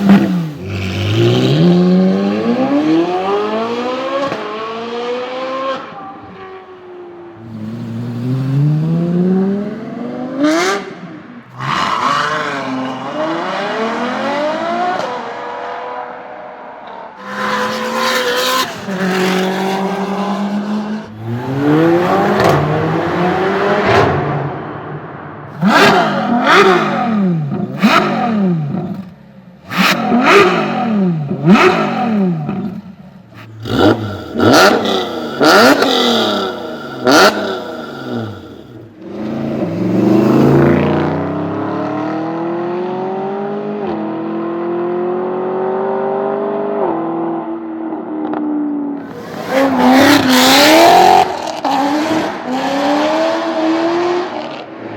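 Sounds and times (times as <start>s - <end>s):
car engine revving: 0.0s - 6.0s, 7.4s - 16.2s, 17.2s - 47.3s, 49.0s - 54.9s.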